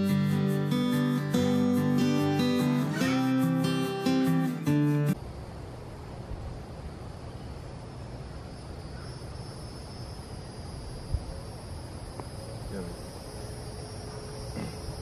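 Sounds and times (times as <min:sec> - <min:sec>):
insects chirring: 0:00.1 - 0:15.0.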